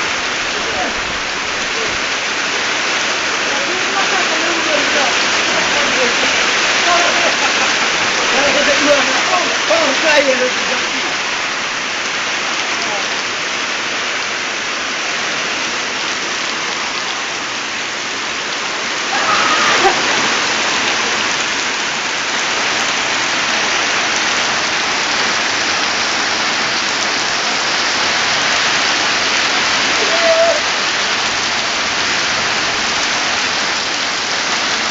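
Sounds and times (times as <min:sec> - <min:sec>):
hail and rain pelting down: 0:00.0 - 0:34.9.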